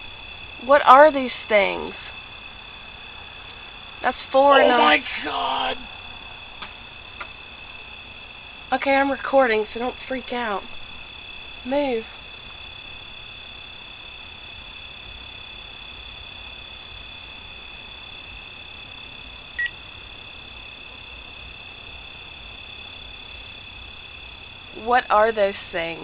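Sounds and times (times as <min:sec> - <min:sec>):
insects and frogs calling: 0:00.0 - 0:26.0.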